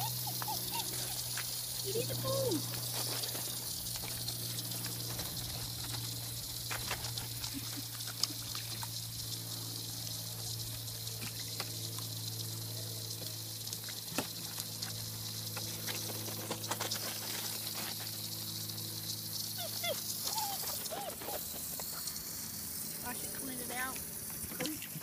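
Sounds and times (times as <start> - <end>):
low steady hum: 0.0 - 25.0
steady hiss: 0.0 - 25.0.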